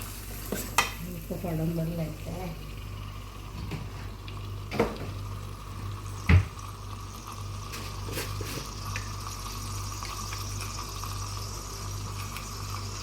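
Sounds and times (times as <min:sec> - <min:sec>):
liquid hissing on stove: 0:00.0 - 0:13.0.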